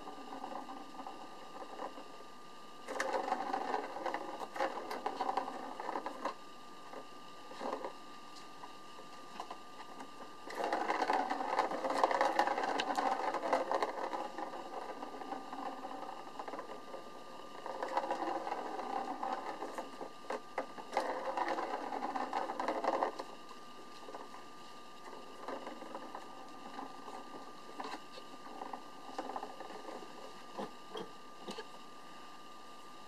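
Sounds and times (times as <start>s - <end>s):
ball rattling in plastic track: 0.0s - 2.2s, 2.8s - 8.0s, 8.6s - 30.7s.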